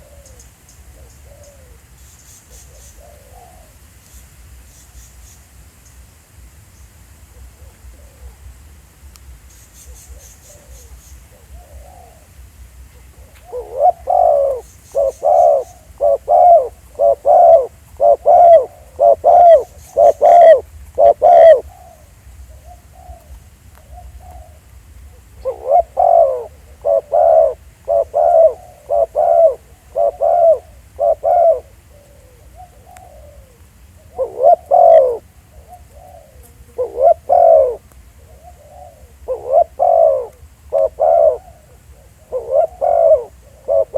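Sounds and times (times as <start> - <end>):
doves cooing: 0.0 - 3.8, 7.3 - 8.6, 9.9 - 43.9.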